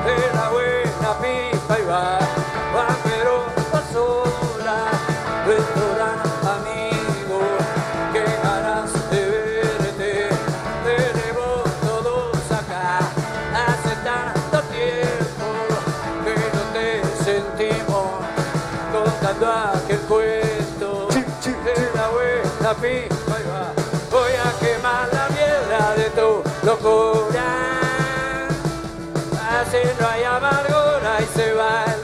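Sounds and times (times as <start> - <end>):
rock band playing instrumental: 0.0 - 32.0.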